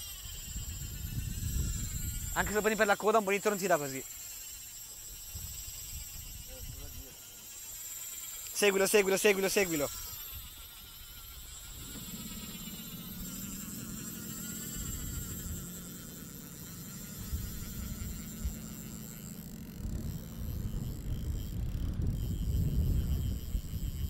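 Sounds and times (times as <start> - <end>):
fishing reel drag buzzing: 0.0 - 24.0.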